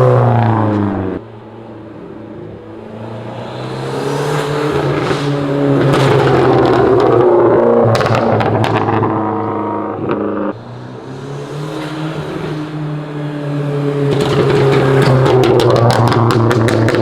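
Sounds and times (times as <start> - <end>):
turbo car engine under load: 0.0 - 17.0.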